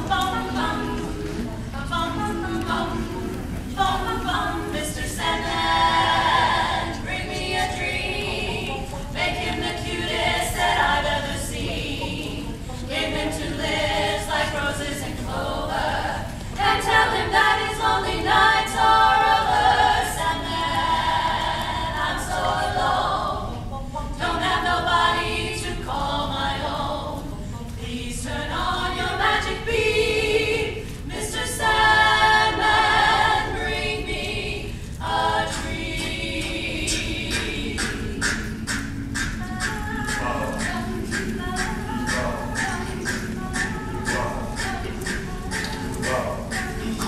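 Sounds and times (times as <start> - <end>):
a cappella group singing: 0.0 - 47.0.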